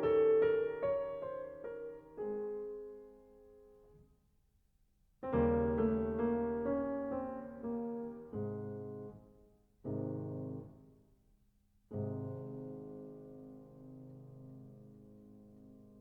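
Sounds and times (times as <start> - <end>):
soft solo piano: 0.0 - 4.1, 5.2 - 11.0, 11.9 - 16.0.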